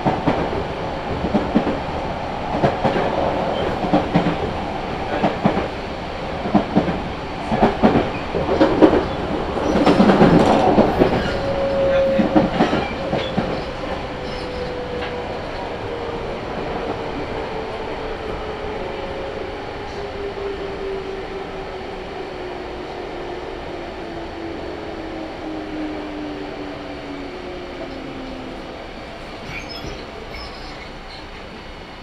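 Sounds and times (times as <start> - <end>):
electric train whine: 0.0 - 32.0.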